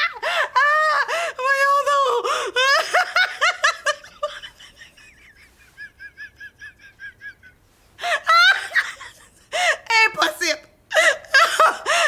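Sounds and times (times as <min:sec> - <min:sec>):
woman laughing: 0:00.0 - 0:09.9, 0:10.9 - 0:12.0.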